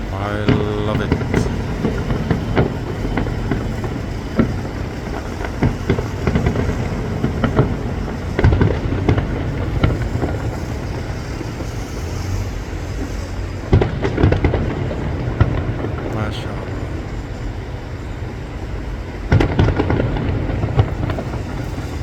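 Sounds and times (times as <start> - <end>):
distant fireworks bangs: 0.0 - 22.0
low rumble and crackle: 0.0 - 22.0.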